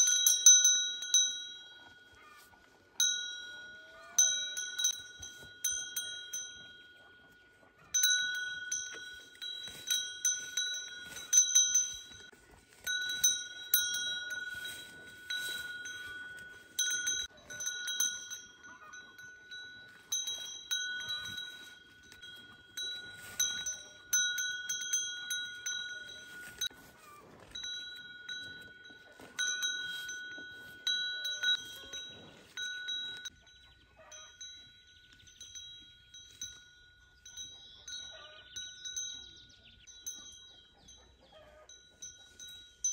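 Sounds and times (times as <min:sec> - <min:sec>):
small metal bell ringing: 0:00.0 - 0:42.9.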